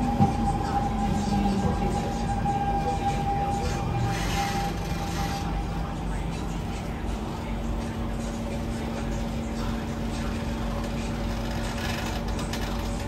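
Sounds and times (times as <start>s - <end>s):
constant hum: 0.0s - 13.0s
wheels and track rumble: 0.0s - 13.0s.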